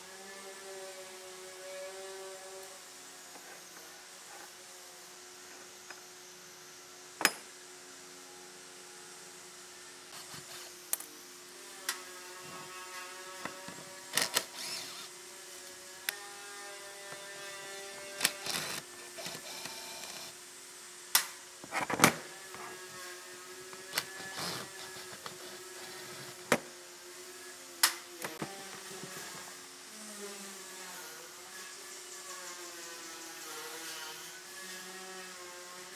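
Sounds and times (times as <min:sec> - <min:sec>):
small electric motor humming: 0:00.0 - 0:07.0, 0:08.0 - 0:20.4, 0:22.2 - 0:35.9.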